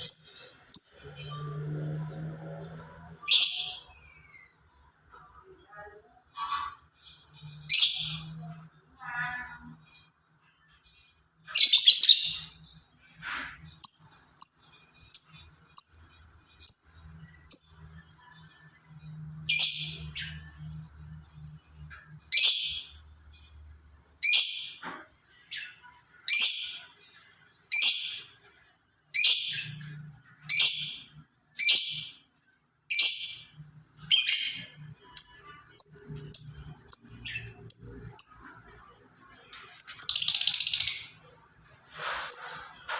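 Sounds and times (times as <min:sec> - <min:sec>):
songbird chirping: 0:00.0 - 0:42.9
thin steady high tone: 0:00.0 - 0:42.9.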